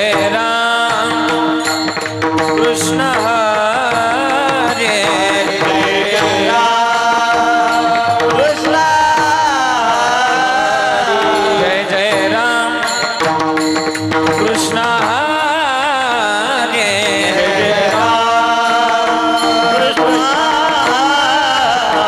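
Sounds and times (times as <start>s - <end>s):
hand drum accompaniment: 0.0s - 22.0s
person singing devotional song: 0.0s - 22.0s.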